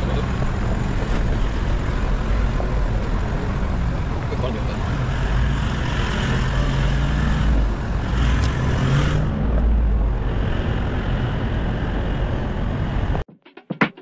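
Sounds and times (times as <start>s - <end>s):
engine rumble: 0.0s - 13.2s.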